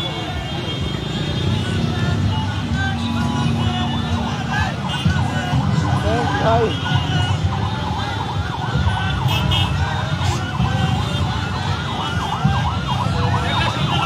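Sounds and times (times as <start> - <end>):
traffic rumble: 0.0 - 14.0
siren wailing: 1.6 - 14.0.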